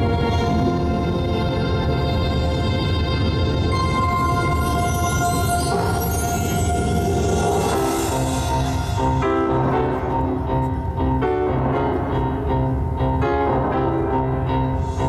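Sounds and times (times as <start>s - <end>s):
keyboard melody over chords: 0.0s - 15.0s.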